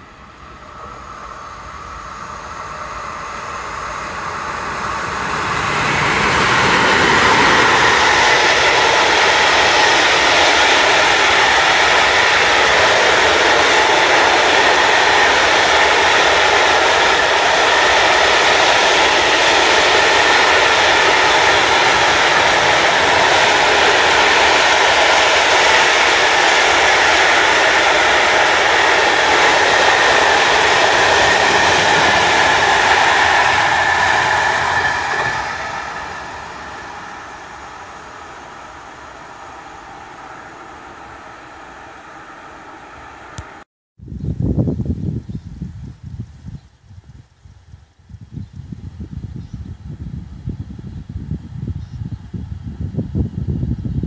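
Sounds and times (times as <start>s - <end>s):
freight train wheels rolling: 0.0s - 43.6s.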